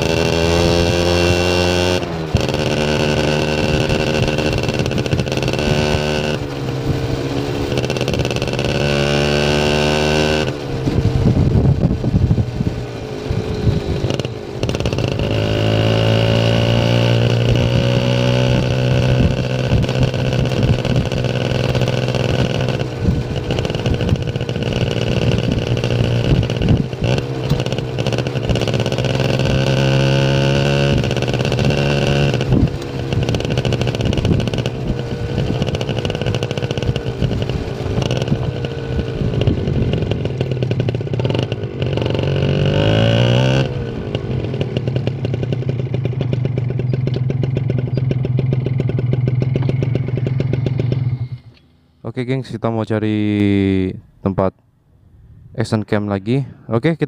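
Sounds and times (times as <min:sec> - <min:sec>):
motorcycle engine accelerating: 0:00.0 - 0:52.1.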